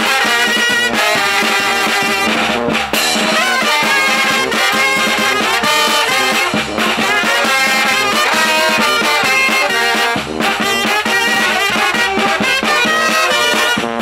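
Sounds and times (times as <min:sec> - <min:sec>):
wind band playing: 0:00.0 - 0:14.0.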